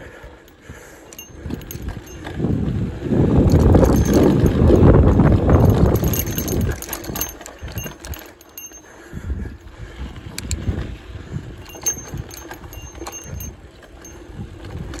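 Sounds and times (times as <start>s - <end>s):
bike rattling over bumps: 0.0s - 15.0s
wind rumble on microphone: 0.0s - 15.0s.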